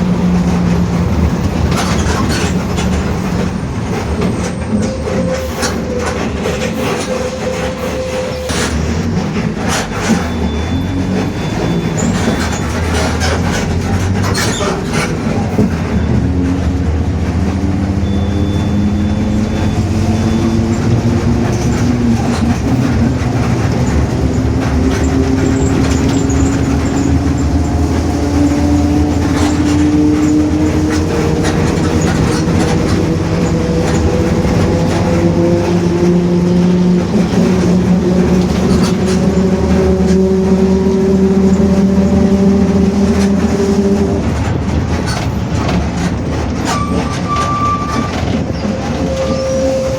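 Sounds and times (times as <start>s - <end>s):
bus differential whine: 0.0s - 49.9s
bus engine and road noise: 0.0s - 49.9s.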